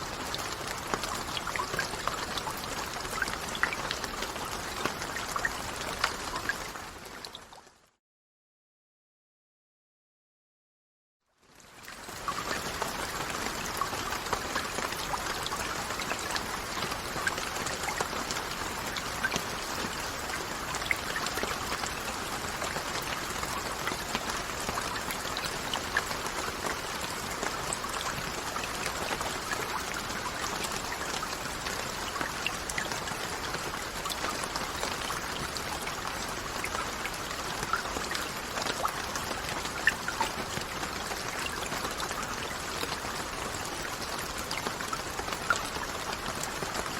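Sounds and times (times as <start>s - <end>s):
raindrops striking nearby: 0.0s - 7.9s, 11.5s - 46.9s.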